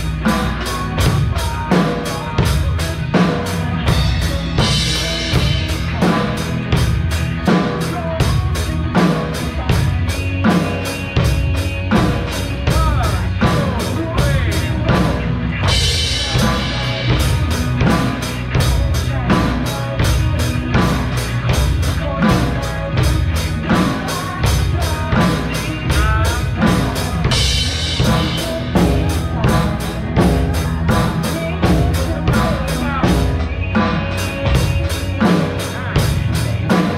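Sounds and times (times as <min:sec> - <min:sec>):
drum kit playing: 0:00.0 - 0:36.9
pop-rock backing track with singing: 0:00.0 - 0:36.9.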